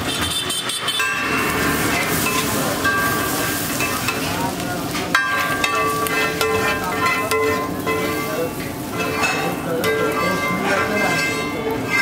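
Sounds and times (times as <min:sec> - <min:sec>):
egg sizzling on a griddle: 0:00.1 - 0:12.0
metal spatula scraping griddle: 0:00.1 - 0:12.0.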